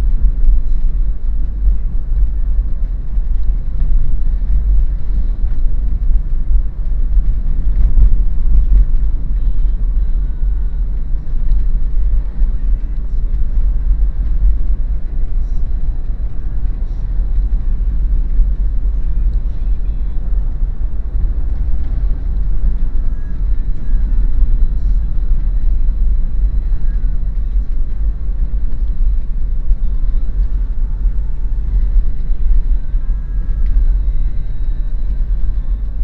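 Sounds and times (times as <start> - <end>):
car engine rumble: 0.0 - 36.0.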